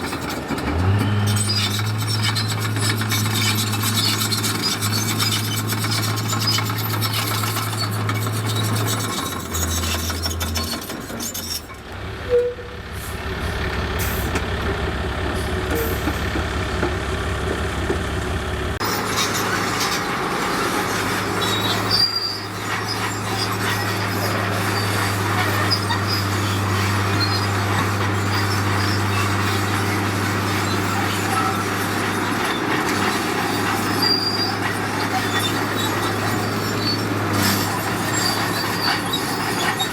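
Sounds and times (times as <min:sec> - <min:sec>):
diesel construction machinery: 0:00.0 - 0:39.9.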